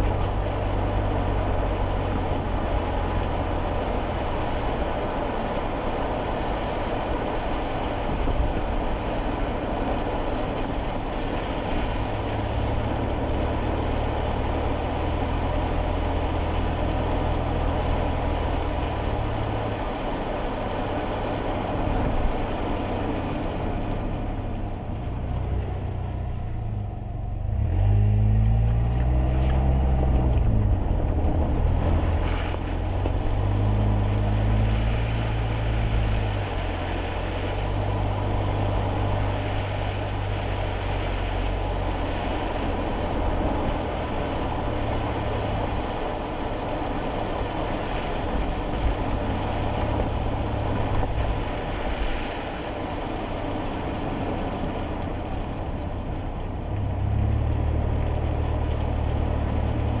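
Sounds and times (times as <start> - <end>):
tyres hissing on wet road: 0.0 - 26.8, 27.5 - 60.0
car engine drone: 0.0 - 60.0.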